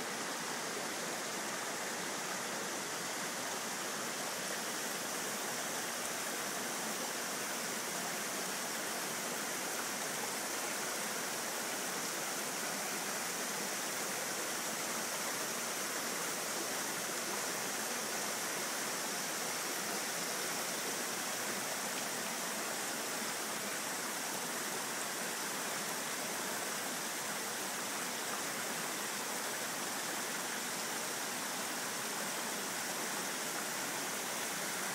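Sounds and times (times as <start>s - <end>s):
stream rushing: 0.0s - 34.9s.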